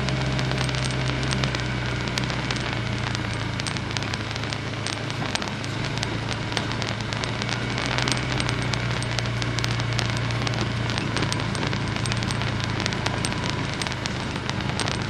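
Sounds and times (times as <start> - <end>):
crackle of sharp clicks: 0.0 - 15.0
vehicle engine running at low revs: 0.0 - 15.0.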